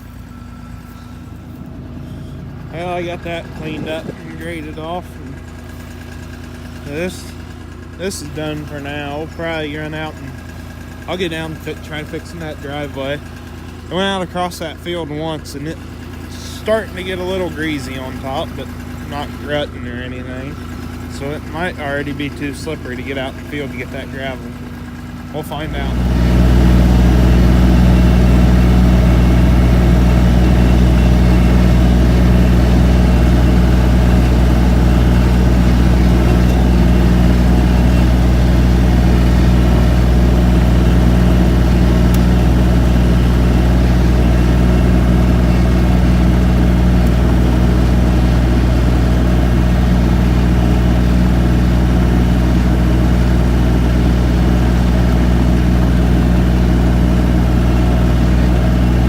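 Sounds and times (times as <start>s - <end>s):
skid loader engine running: 0.0s - 59.0s.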